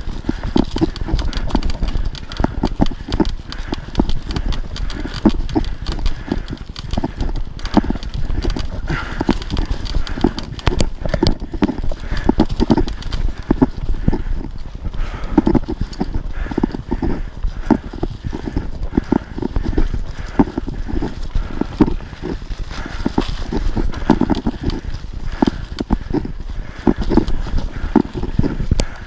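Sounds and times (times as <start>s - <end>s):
bike rattling and clicking: 0.0s - 29.0s
tyres rumbling on dirt: 0.0s - 29.0s
wind noise: 0.0s - 29.0s.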